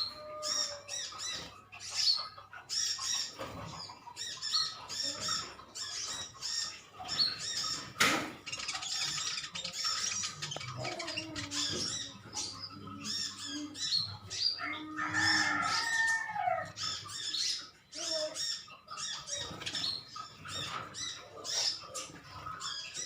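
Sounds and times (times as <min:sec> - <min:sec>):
sunbirds chirping: 0:00.0 - 0:23.0.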